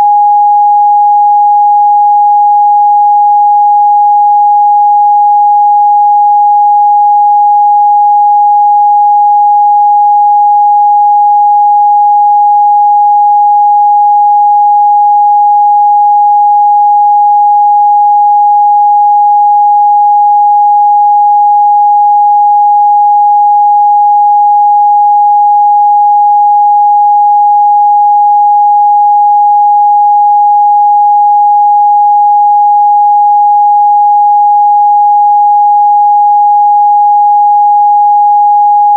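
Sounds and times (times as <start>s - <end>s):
sine test tone: 0.0s - 38.9s.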